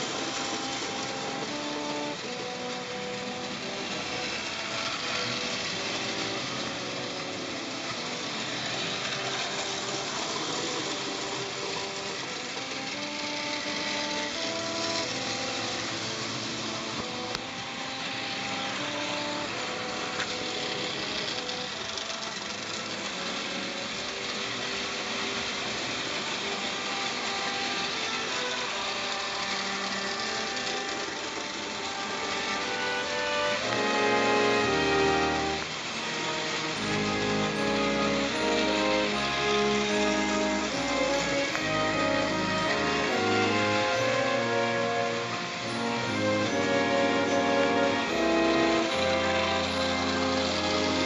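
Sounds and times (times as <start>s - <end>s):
toy train motor whirring: 0.0s - 51.0s
wheels rattling on metal track: 0.0s - 51.0s.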